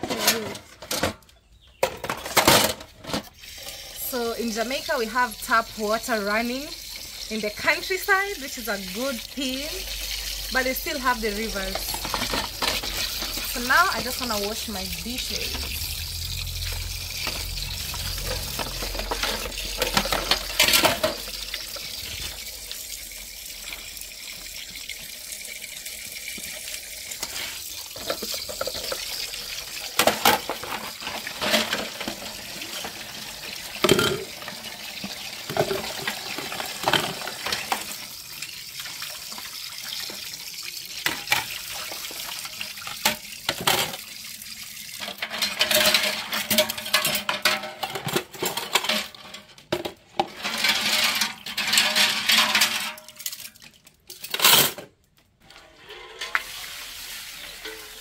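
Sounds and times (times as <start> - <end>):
tap water running into basin: 3.2 - 49.2, 56.2 - 58.0.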